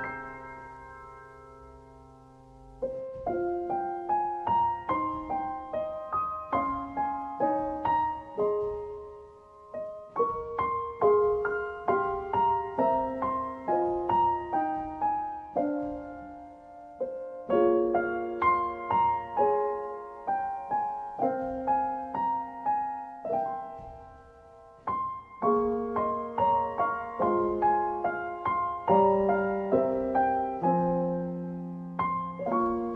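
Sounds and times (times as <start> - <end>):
gentle solo piano piece: 0.0 - 32.9.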